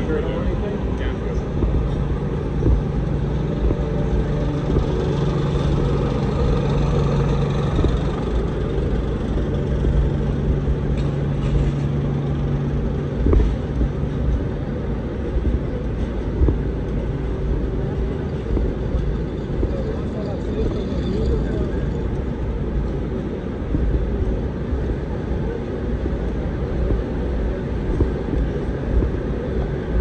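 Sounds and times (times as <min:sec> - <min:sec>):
large vehicle engine humming: 0:00.0 - 0:30.0
low rumble of traffic: 0:00.0 - 0:30.0.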